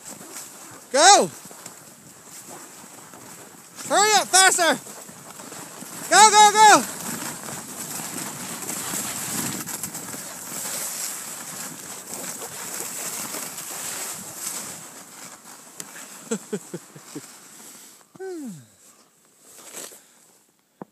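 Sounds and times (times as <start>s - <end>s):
skis sliding over snow: 0.0s - 20.5s.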